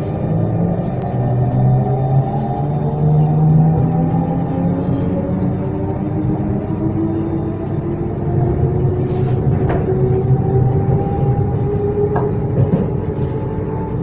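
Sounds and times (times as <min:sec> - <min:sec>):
electric train motor whine: 0:00.0 - 0:14.0
low rumble: 0:00.0 - 0:14.0.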